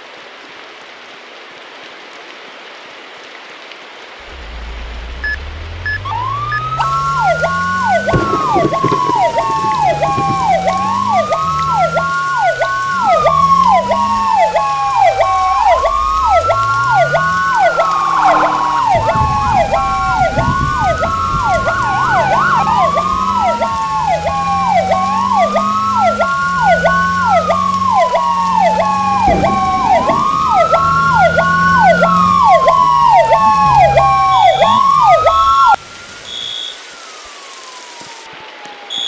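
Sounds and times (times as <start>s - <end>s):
low rising and falling drone: 4.2s - 35.8s
siren fast yelp: 4.2s - 39.0s
siren slow wail: 4.2s - 39.0s.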